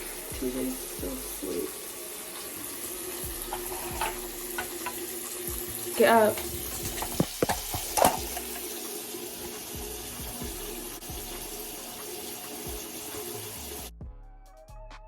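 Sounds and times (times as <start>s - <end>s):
tap water running into sink: 0.0s - 13.9s
background music: 0.0s - 15.0s.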